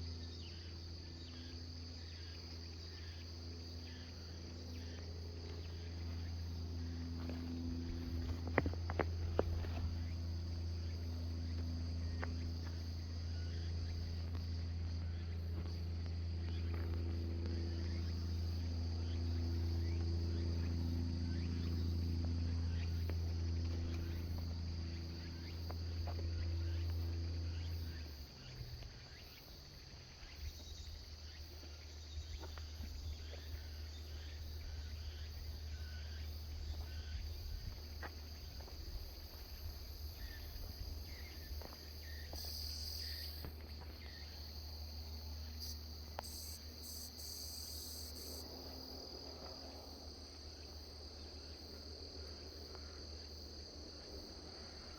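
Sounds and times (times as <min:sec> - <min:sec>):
low hum: 0:00.0 - 0:53.0
insects chirring: 0:00.0 - 0:54.9.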